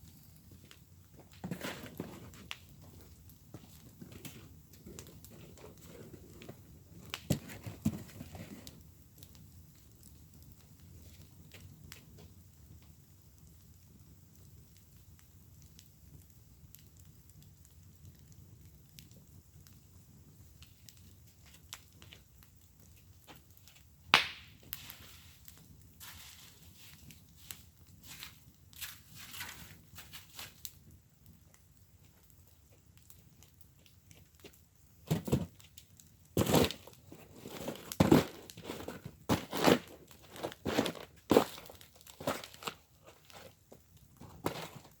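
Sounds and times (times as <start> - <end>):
firewood crackling and popping: 0.0 - 45.0.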